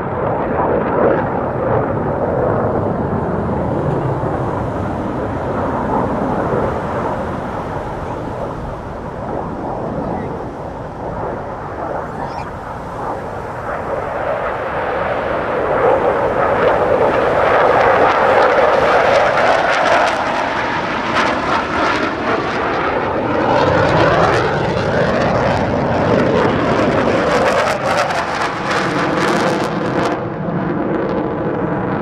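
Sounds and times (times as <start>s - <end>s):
fighter jet flying by: 0.0s - 32.0s.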